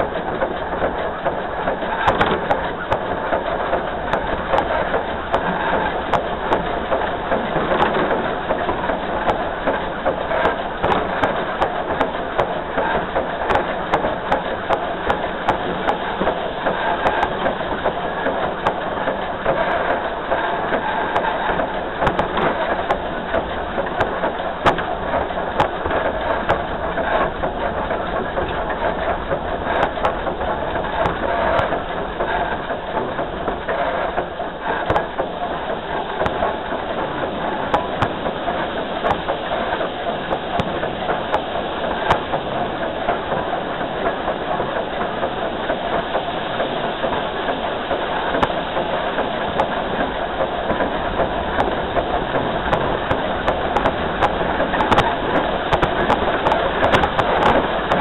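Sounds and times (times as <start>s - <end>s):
clicks over rail joints: 0.0s - 58.0s
train wheels rumbling on rail: 0.0s - 58.0s.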